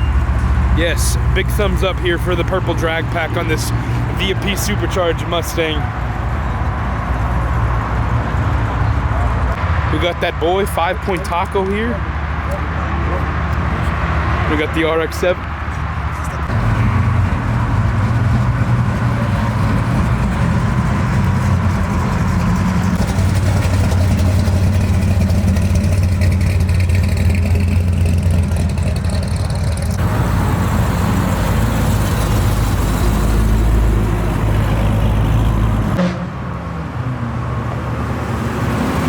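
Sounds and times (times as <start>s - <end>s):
car engine rumbling: 0.0s - 36.0s.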